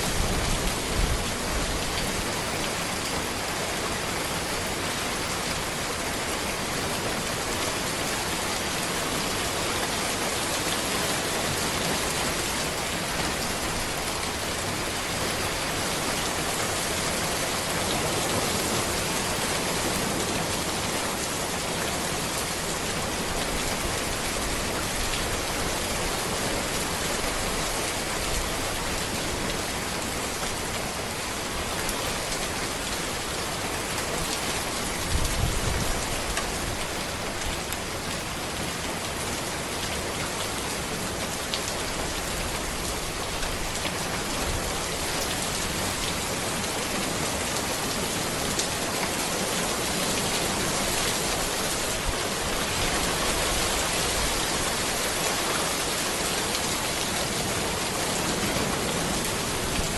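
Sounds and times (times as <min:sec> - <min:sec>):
rain falling on a road: 0:00.0 - 0:59.9.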